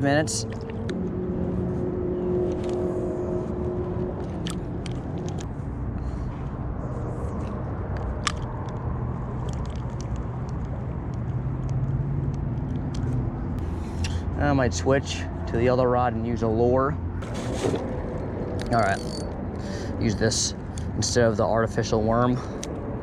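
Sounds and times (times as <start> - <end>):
mechanical hum and rumble: 0.0 - 23.0.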